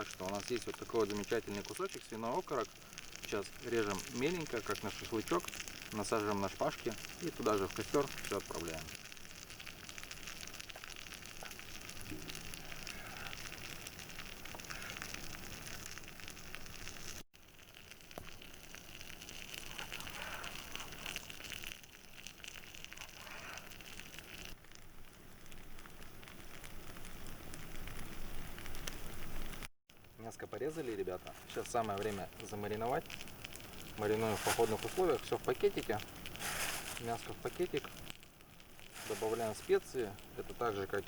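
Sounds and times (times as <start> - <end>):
campfire sizzling and crackling: 0.0 - 41.0.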